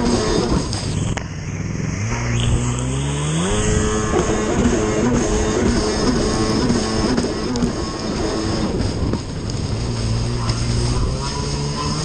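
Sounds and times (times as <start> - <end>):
jet ski engine revving: 0.0 - 12.0
water spray rushing: 0.0 - 12.0.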